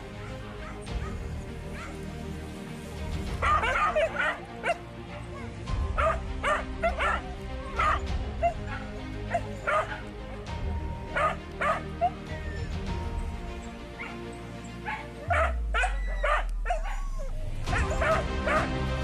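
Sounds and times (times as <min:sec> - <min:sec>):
dogs barking and yelping: 0:00.0 - 0:02.1, 0:03.3 - 0:19.0
background music: 0:00.0 - 0:19.0.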